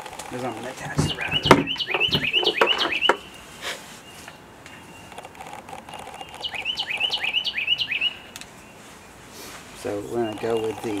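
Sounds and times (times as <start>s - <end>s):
bird chirping: 0.3s - 11.0s.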